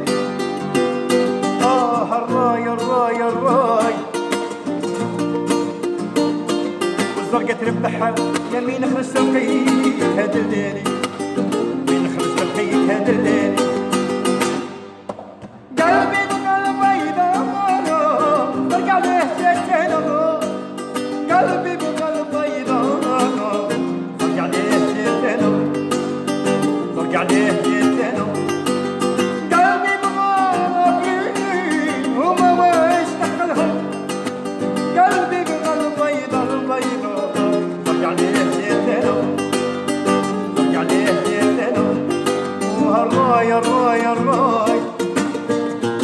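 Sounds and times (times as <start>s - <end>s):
song with plucked strings: 0.0s - 46.0s.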